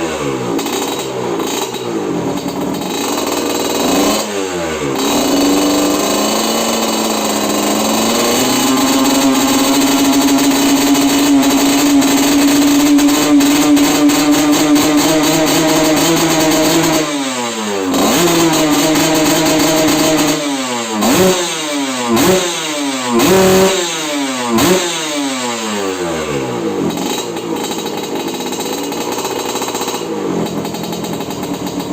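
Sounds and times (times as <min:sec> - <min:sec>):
motorcycle engine idling: 0:00.0 - 0:31.9
motorcycle engine revving: 0:00.0 - 0:31.9.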